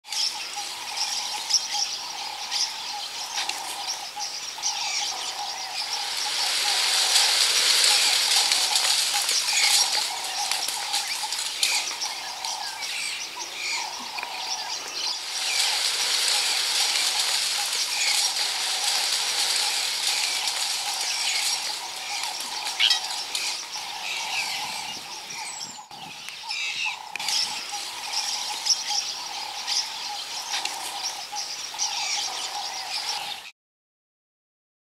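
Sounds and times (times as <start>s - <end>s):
birds chirping and calling: 0.1s - 33.5s
high hiss of bush ambience: 0.1s - 33.5s.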